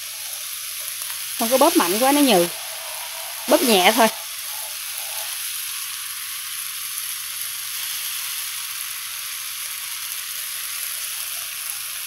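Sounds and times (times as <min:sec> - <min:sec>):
wok stir-fry sizzling: 0:00.0 - 0:12.0.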